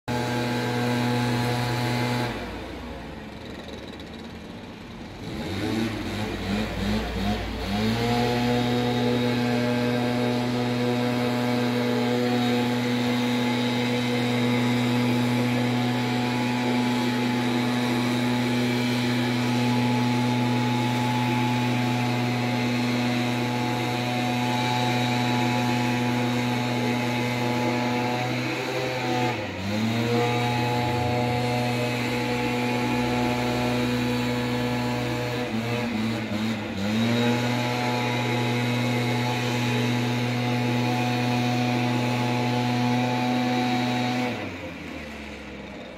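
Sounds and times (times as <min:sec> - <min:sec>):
brushcutter engine running: 0:00.1 - 0:45.9.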